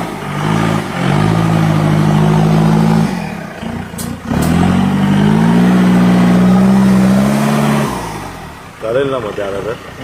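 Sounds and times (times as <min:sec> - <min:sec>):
engine revving hard: 0:00.0 - 0:08.7.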